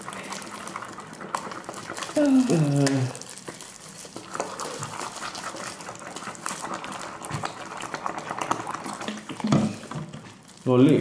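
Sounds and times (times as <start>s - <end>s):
slime squishing: 0.0s - 11.0s.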